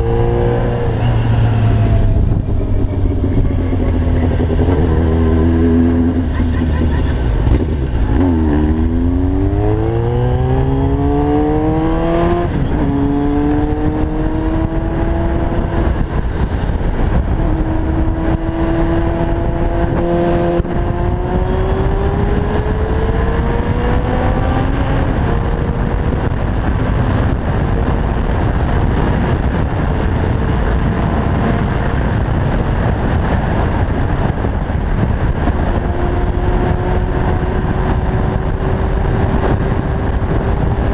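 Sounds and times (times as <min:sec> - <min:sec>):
motorcycle engine accelerating: 0:00.0 - 0:40.9
wind noise: 0:00.0 - 0:40.9.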